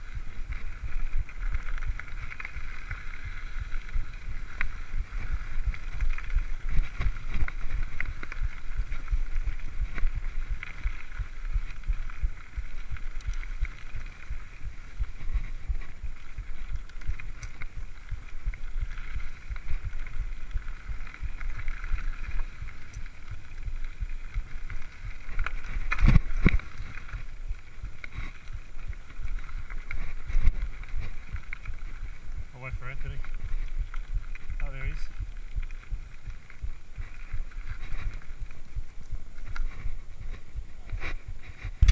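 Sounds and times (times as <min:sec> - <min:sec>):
bike rattling on dirt: 0:00.0 - 0:41.9
wind buffeting microphone: 0:00.0 - 0:41.9.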